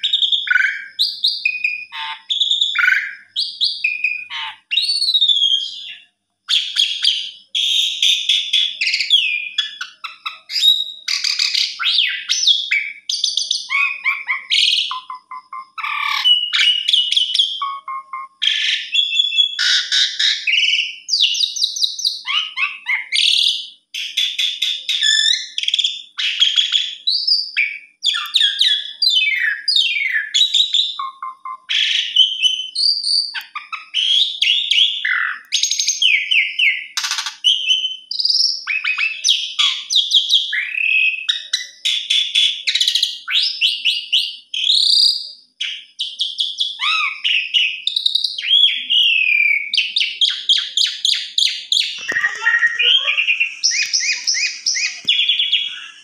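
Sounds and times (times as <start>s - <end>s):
starling singing whistles and trills: 0.0s - 56.0s.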